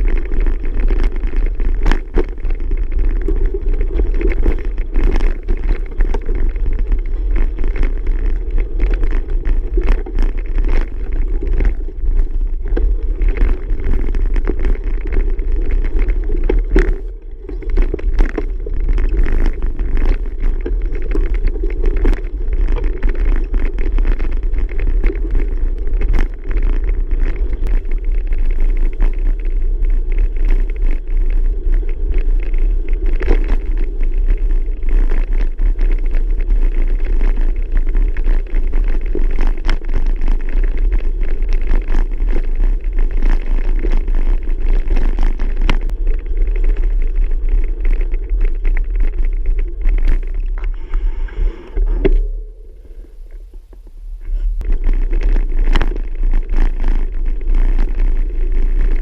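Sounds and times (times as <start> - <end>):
bicycle rattles and knocks: 0.0 - 52.4, 53.3 - 59.0
wind rumbling on microphone: 0.0 - 59.0.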